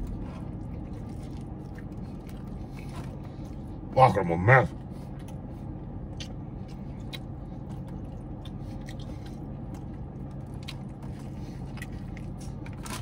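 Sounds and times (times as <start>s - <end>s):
man chewing: 0.0s - 4.0s, 4.7s - 13.0s
steady low hum: 0.0s - 13.0s.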